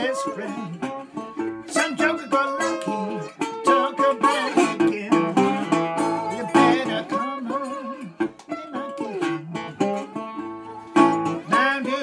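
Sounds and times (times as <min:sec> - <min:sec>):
slide guitar fingerpicked: 0:00.0 - 0:12.0.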